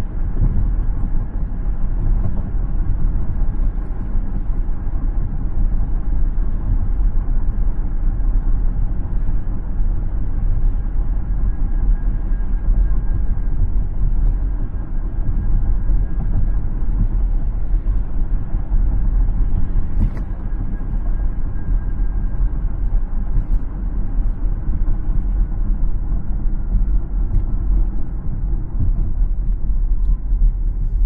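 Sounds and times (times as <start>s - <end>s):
car driving road rumble: 0.0s - 31.0s.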